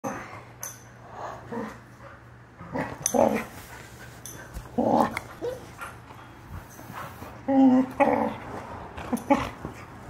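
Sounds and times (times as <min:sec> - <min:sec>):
puppies play-fighting: 0:00.0 - 0:10.0.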